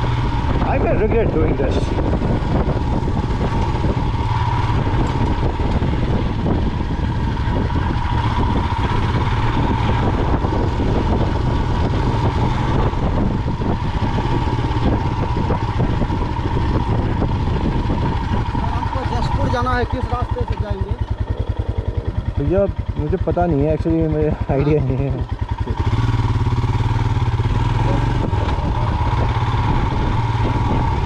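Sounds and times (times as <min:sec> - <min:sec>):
constant whine: 0:00.0 - 0:31.0
motorcycle engine running: 0:00.0 - 0:31.0.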